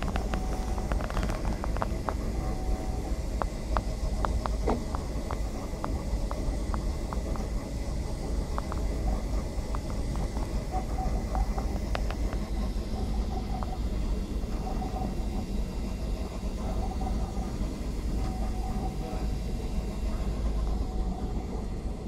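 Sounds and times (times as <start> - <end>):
printer mechanical hum: 0.0 - 22.0
stepper motors whining: 0.0 - 22.0.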